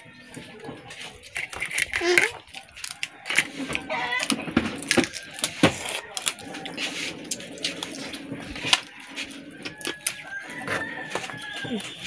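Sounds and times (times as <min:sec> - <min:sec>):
crab shells cracking: 0:01.1 - 0:12.0.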